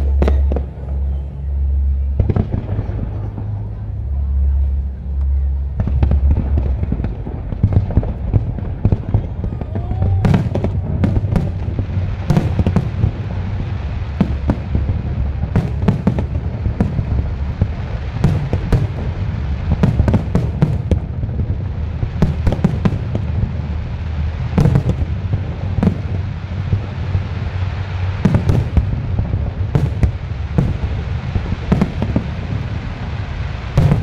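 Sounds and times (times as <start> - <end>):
continuous low rumble: 0.0 - 34.0.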